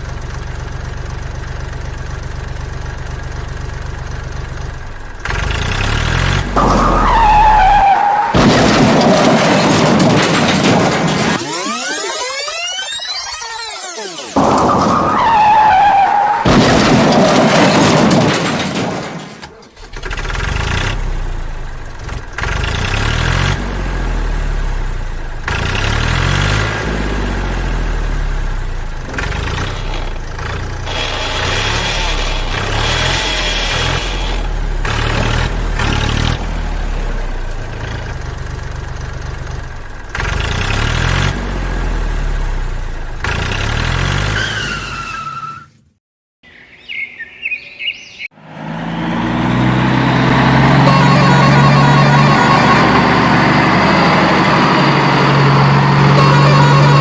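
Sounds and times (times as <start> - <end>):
vehicle engine revving: 0.0 - 19.1, 19.7 - 45.0, 48.3 - 57.0.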